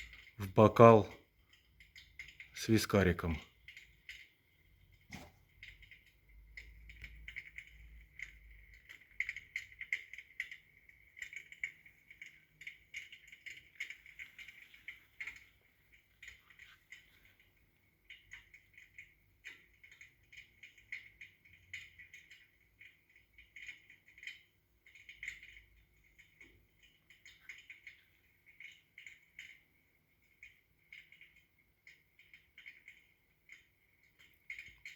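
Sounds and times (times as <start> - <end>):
fireplace crackle sound effect: 0.0 - 34.9.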